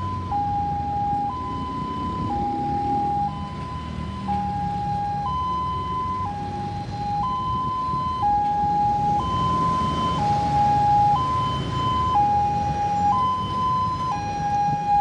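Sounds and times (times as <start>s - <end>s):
ambulance siren two-tone: 0.0s - 15.0s.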